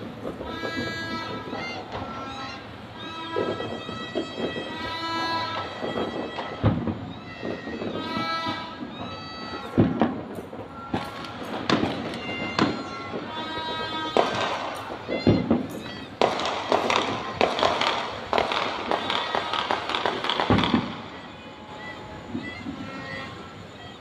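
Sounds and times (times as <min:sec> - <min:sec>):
fireworks banging and crackling: 0:00.0 - 0:24.0
long held pitched tones: 0:00.0 - 0:24.0
voices: 0:00.0 - 0:24.0.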